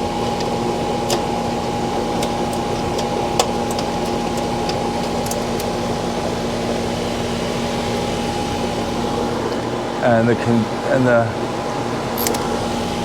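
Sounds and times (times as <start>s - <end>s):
air conditioning unit humming: 0.0s - 13.0s.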